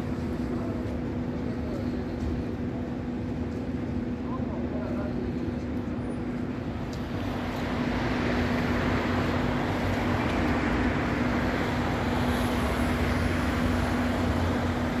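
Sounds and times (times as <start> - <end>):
street traffic noise: 0.0 - 15.0
tram equipment humming: 0.0 - 15.0.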